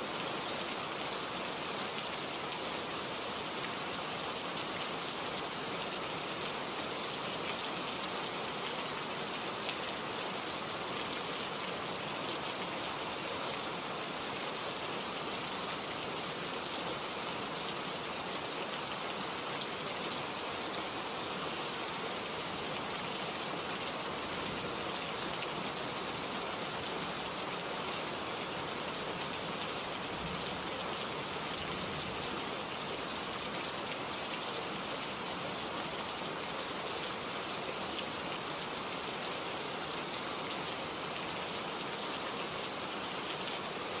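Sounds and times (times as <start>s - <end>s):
heavy rain on wet street: 0.0s - 44.0s.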